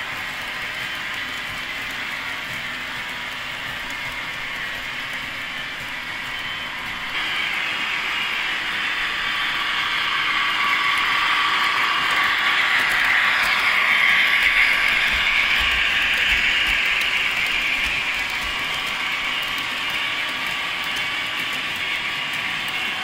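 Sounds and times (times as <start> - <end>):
model train wheels rattling on rails: 0.0 - 23.0.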